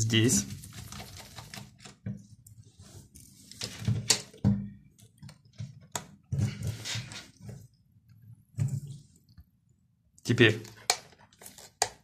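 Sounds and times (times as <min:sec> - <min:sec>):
plastic handling noises: 0:00.2 - 0:09.4, 0:10.3 - 0:12.0.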